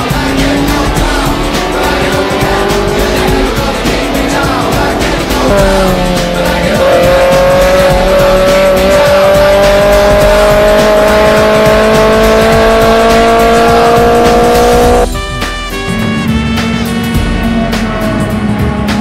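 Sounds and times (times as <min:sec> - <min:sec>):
race car engine at high revs: 0:00.0 - 0:15.1, 0:17.1 - 0:19.0.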